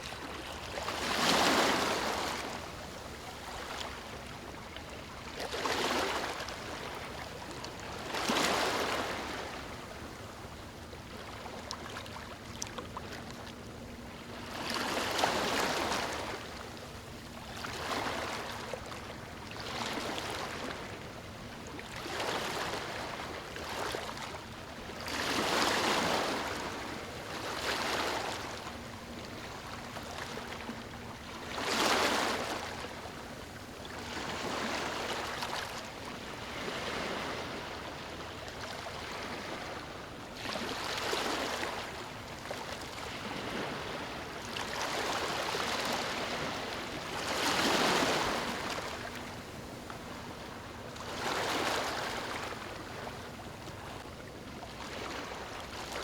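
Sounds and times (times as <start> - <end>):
small waves lapping on beach: 0.0 - 56.0.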